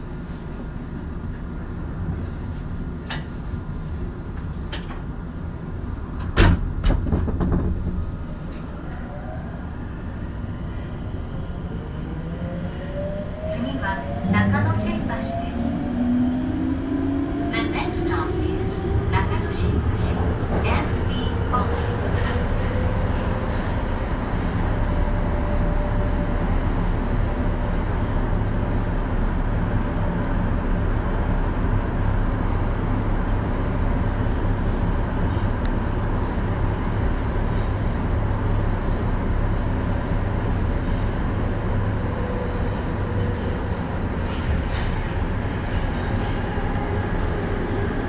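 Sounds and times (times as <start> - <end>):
subway car wheels rumbling: 0.0 - 48.0.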